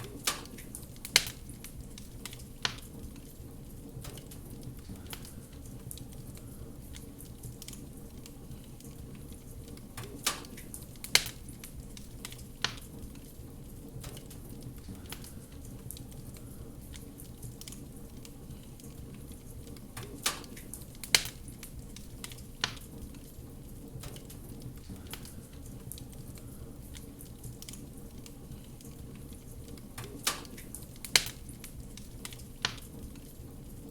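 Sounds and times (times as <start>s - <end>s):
fire popping: 0.0s - 33.9s
wood fire crackling: 0.0s - 33.9s.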